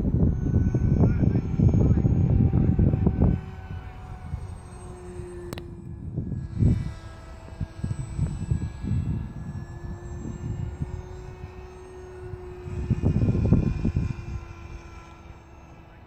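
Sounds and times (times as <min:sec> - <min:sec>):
model plane electric motor whining: 0:00.0 - 0:16.0
wind rumble on microphone: 0:00.0 - 0:16.0.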